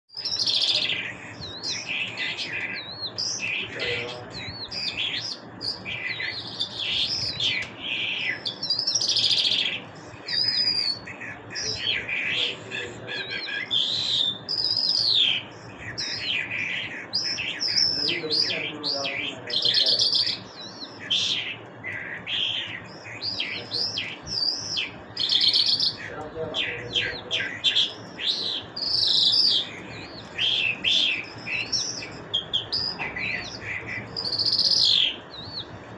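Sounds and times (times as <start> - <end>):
lark singing: 0.1 - 35.8.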